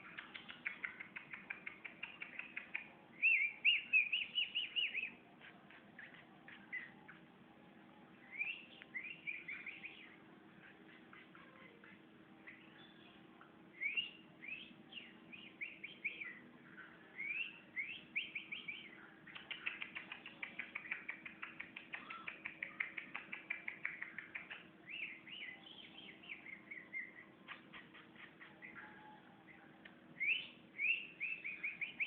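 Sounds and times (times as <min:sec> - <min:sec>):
bulbul singing: 0:00.0 - 0:32.0.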